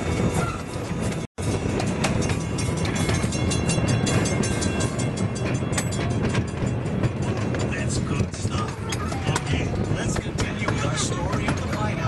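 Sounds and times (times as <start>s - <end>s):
tour train rumbling along track: 0.0s - 12.0s
train cars rattling and clattering: 0.0s - 12.0s.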